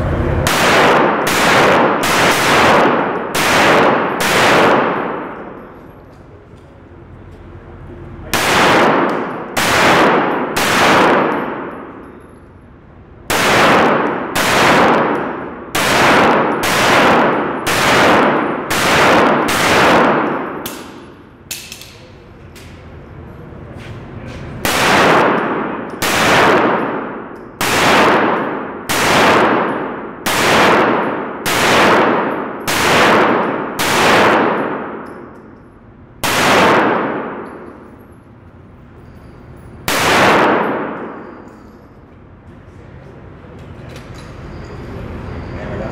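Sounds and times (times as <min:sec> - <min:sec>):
handgun shots echoing indoors: 0:00.4 - 0:06.7, 0:08.2 - 0:23.0, 0:24.6 - 0:38.6, 0:39.6 - 0:42.3.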